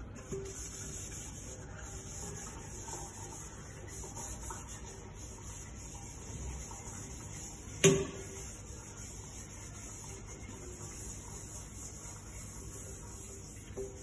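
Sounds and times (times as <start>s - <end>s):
bowl rubbing: 0.0s - 14.0s.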